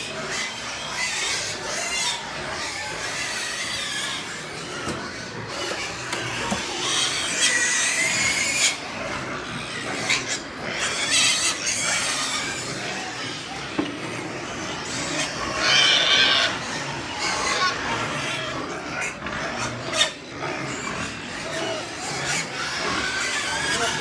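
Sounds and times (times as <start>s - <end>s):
pigs squealing: 0.0s - 24.0s.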